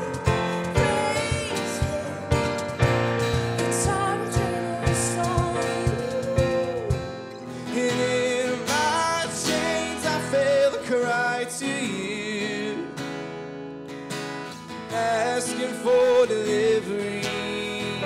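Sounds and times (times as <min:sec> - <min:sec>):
person singing: 0:00.0 - 0:13.1, 0:14.9 - 0:18.0
acoustic guitar strumming: 0:00.0 - 0:18.0.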